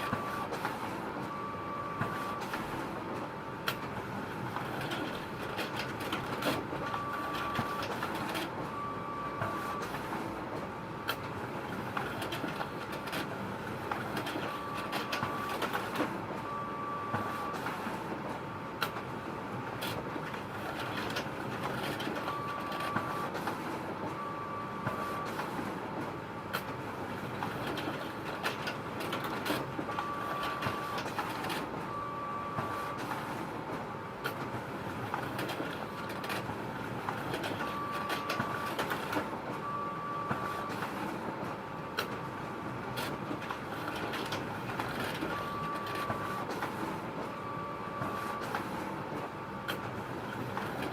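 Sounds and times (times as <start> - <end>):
photocopier whirring: 0.0 - 50.9.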